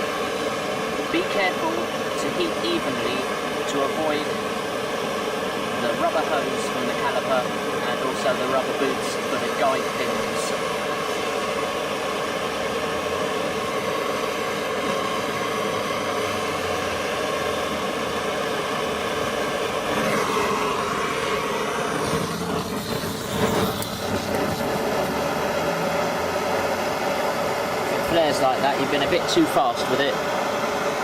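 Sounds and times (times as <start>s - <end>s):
blowtorch flame burning: 0.0s - 31.0s.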